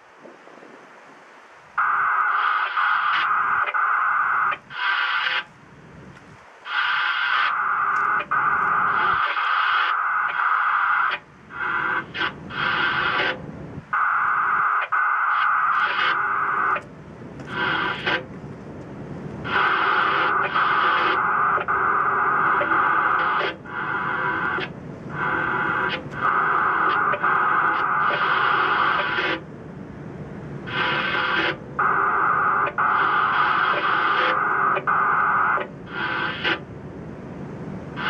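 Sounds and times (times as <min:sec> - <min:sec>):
modem-like data bursts: 0:01.8 - 0:05.5, 0:06.6 - 0:18.3, 0:19.5 - 0:29.5, 0:30.6 - 0:36.7.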